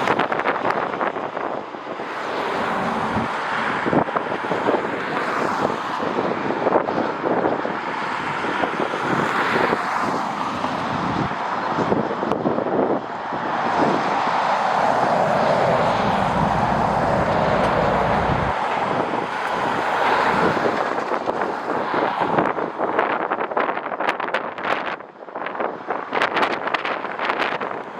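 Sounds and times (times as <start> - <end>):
jet airliner engines passing: 0.0 - 23.2
wind buffeting microphone: 0.0 - 27.9.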